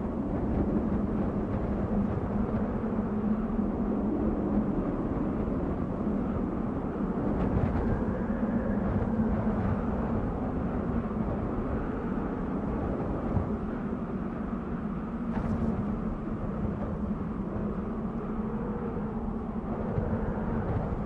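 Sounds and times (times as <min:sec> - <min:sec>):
wind blowing low rumble: 0:00.0 - 0:21.0.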